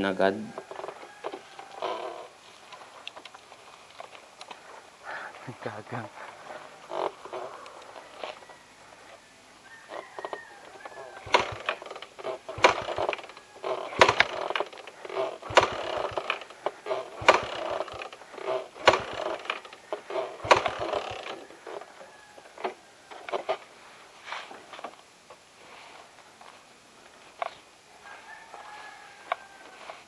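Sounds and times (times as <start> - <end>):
mechanical rattling on motorcycle: 0.0 - 9.1, 9.8 - 23.7, 24.5 - 25.0, 27.1 - 27.6.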